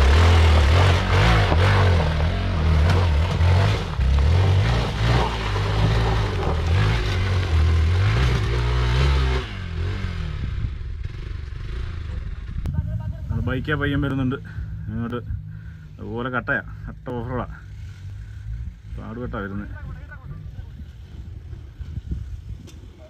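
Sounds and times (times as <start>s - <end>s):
off-road vehicle engine revving: 0.0s - 20.8s.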